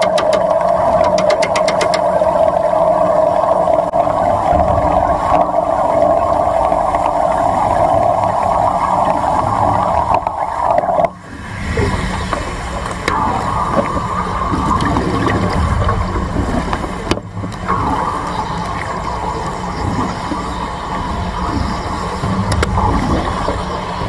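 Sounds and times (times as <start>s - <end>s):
low rumble: 2.1s - 24.0s.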